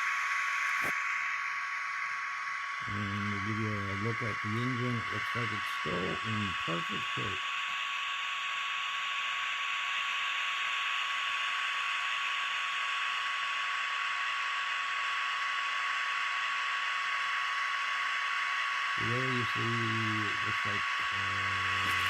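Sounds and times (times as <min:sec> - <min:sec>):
model locomotive blower hiss and whine: 0:00.0 - 0:22.0.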